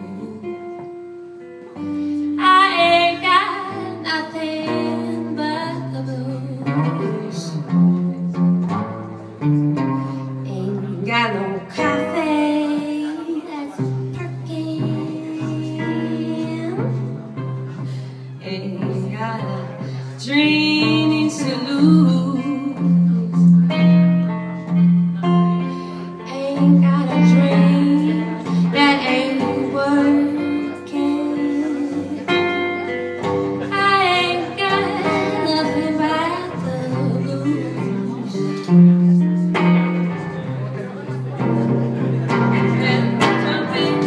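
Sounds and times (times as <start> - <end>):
blues guitar accompaniment: 0.0 - 44.0.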